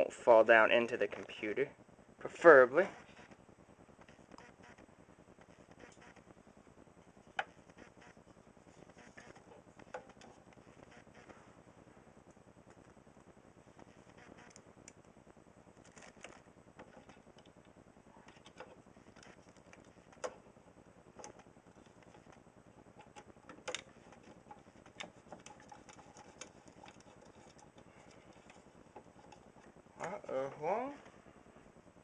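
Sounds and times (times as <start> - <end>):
low steady hiss: 0.0 - 32.0.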